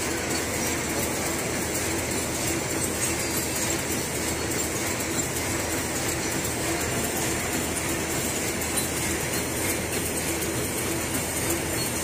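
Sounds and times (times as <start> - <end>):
packing machine running: 0.0 - 12.0.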